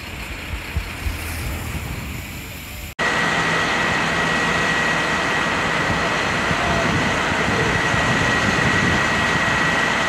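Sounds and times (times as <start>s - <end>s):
fire truck engine running: 0.0s - 10.0s
high-pitched whine: 0.0s - 10.0s.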